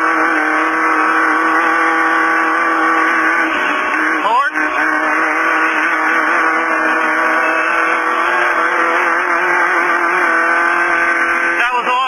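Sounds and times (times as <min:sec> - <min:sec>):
race car engine running hard: 0:00.0 - 0:12.0
road and wind noise: 0:00.0 - 0:12.0.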